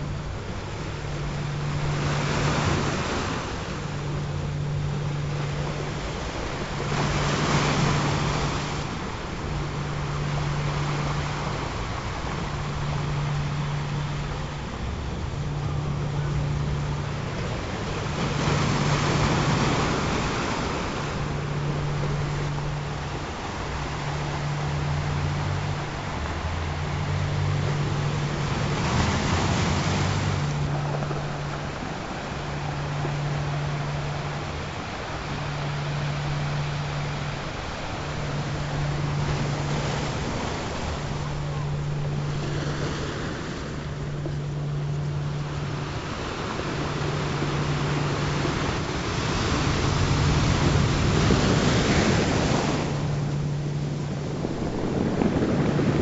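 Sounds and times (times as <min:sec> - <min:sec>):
ocean waves washing in: 0:00.0 - 0:56.0.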